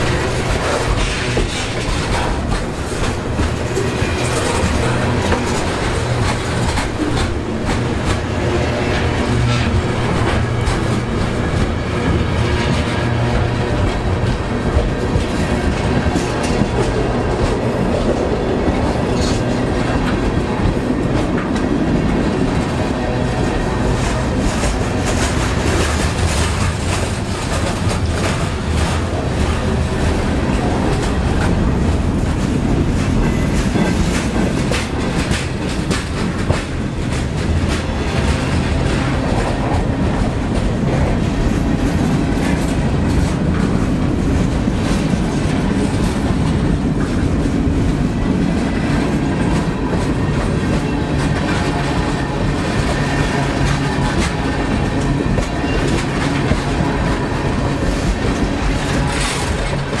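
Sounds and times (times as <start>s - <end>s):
train cars rumbling: 0.0s - 60.0s
wheels clicking over rail joints: 0.0s - 60.0s.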